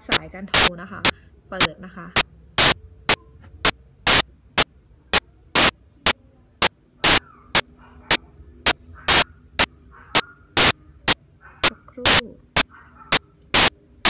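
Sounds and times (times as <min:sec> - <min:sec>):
static crackle bursts: 0:00.0 - 0:07.7, 0:08.6 - 0:13.8
faint low hum: 0:00.0 - 0:14.0.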